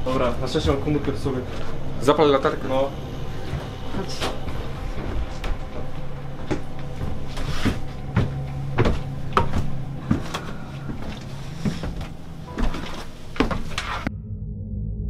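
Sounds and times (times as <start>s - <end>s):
low steady hum: 0.0s - 15.0s
irregular knocks and clunks: 0.2s - 14.1s.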